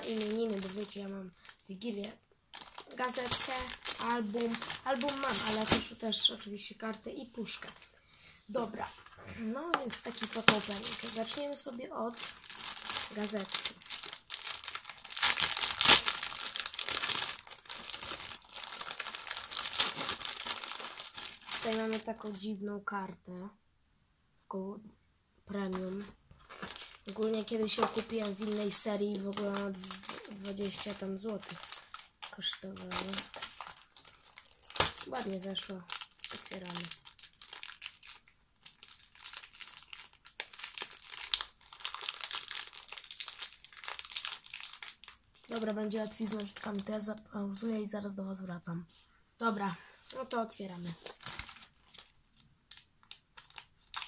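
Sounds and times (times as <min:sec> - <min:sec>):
plastic bag crinkling: 0:00.0 - 0:08.0, 0:08.7 - 0:22.6, 0:25.6 - 0:47.7, 0:50.1 - 0:54.0
plastic crackle: 0:00.0 - 0:08.0, 0:08.6 - 0:22.6, 0:25.6 - 0:47.9, 0:50.1 - 0:54.0.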